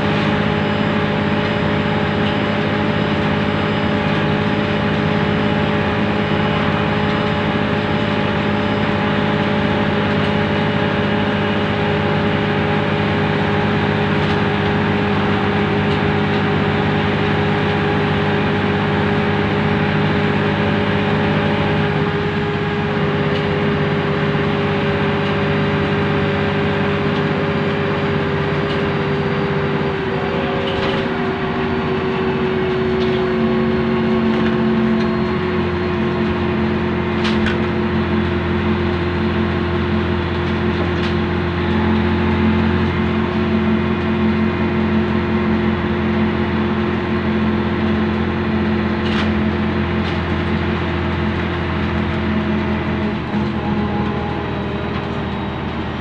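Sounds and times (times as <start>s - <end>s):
bus diesel engine running: 0.0s - 56.0s
road noise: 0.0s - 56.0s
whining tone: 0.0s - 56.0s.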